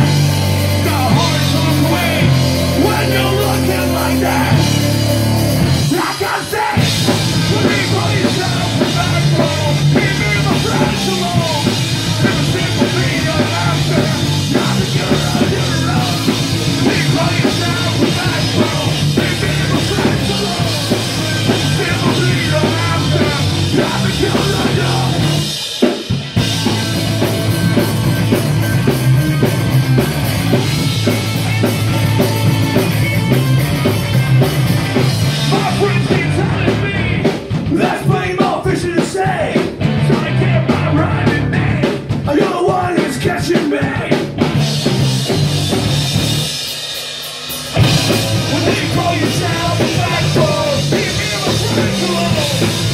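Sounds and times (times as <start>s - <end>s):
distorted electric guitar: 0.0s - 38.3s, 39.2s - 42.2s, 44.0s - 52.9s
pounding drum kit: 0.0s - 52.9s
singer shouting: 0.1s - 5.0s, 5.8s - 25.5s, 31.3s - 44.3s, 47.8s - 52.9s.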